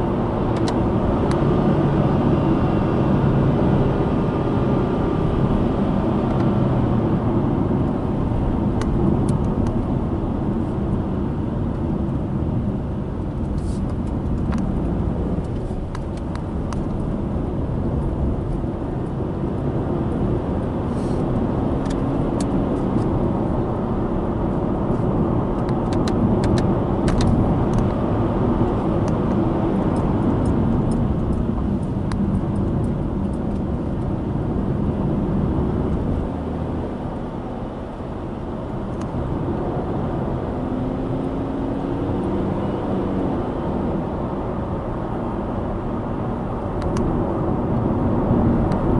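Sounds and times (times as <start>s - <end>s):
car engine hum: 0.0s - 48.9s.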